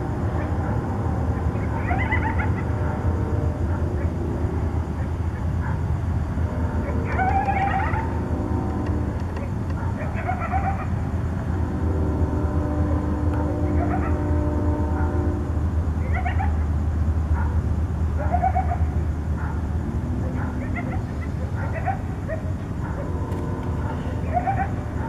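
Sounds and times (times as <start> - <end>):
coyotes yipping and howling: 0.0 - 11.7, 13.2 - 25.0.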